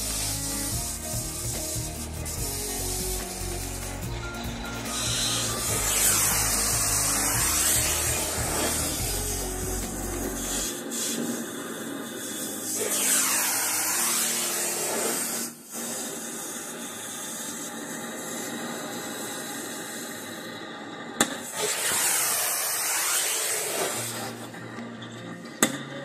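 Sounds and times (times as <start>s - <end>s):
steady hissing noise: 0.0s - 24.6s.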